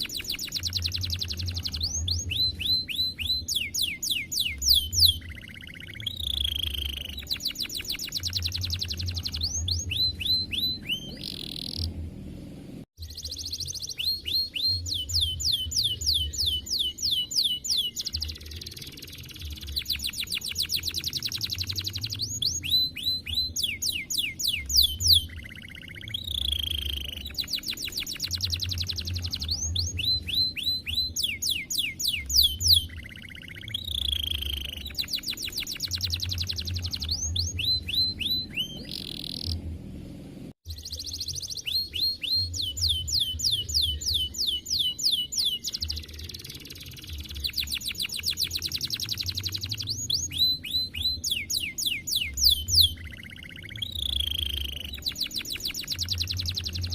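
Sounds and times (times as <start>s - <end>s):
canary singing trills: 0.0s - 39.7s, 40.6s - 56.9s.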